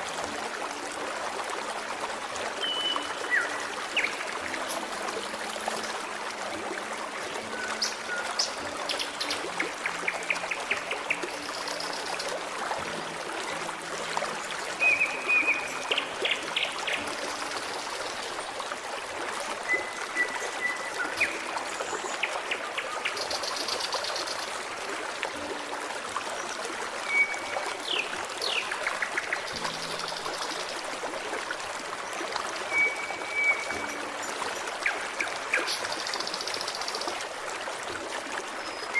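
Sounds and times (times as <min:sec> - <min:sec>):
stream trickling and burbling: 0:00.0 - 0:38.9.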